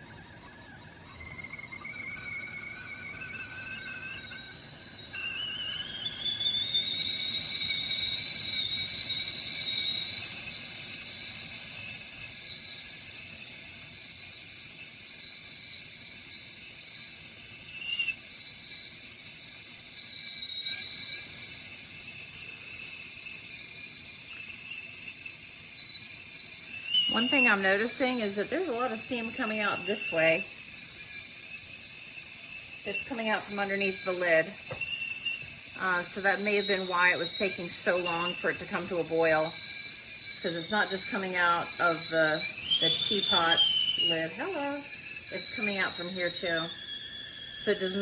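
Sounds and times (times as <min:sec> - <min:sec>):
kettle whistling: 0:00.0 - 0:48.0.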